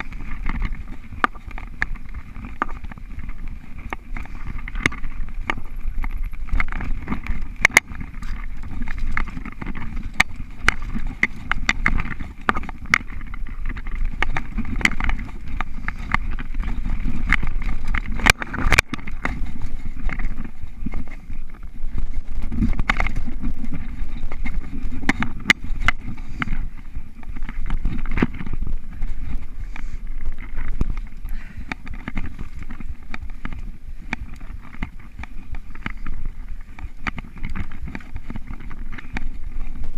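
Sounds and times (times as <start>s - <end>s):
bike clicking and rattling: 0.0s - 39.9s
bike tyres rumbling on dirt: 0.0s - 39.9s
wind: 0.0s - 39.9s.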